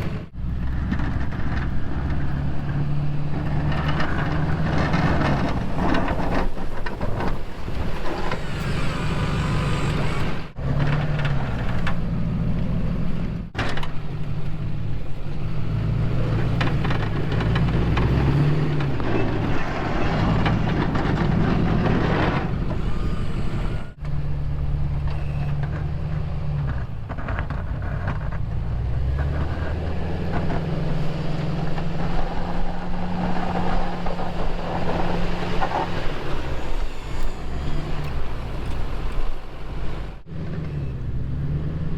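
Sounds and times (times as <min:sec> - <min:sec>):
truck engine revving under load: 0:00.0 - 0:41.9.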